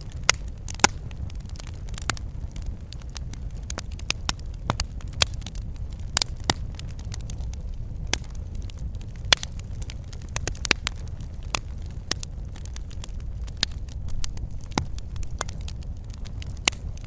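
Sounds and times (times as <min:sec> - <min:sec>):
fire burning rumble: 0:00.0 - 0:17.0
fire popping and snapping: 0:00.0 - 0:17.0.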